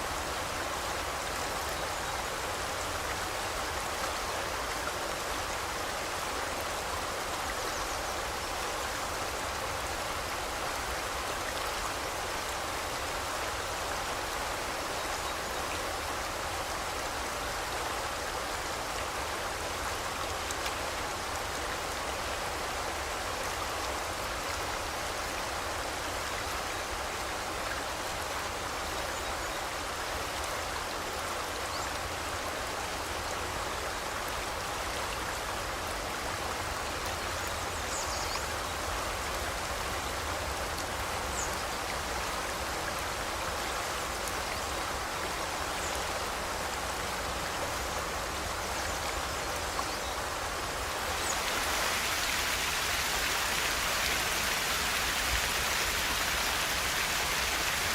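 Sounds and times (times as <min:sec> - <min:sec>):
river water rushing: 0:00.0 - 0:57.9.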